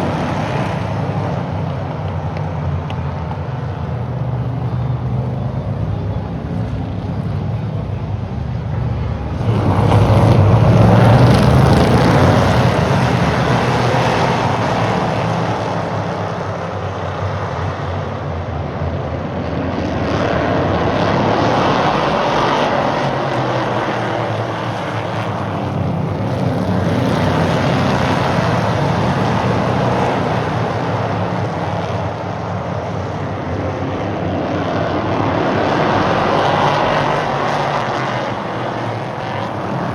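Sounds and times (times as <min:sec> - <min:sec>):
race car engines droning: 0:00.0 - 0:39.9.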